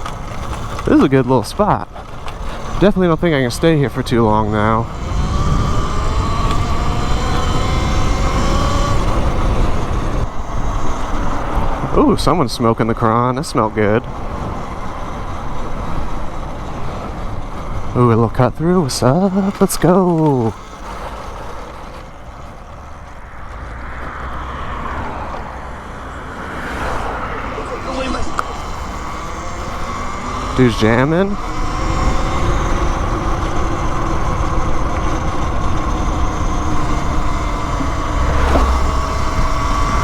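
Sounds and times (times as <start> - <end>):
electric motorbike motor whining: 0.0 - 40.0
wind noise: 0.0 - 40.0.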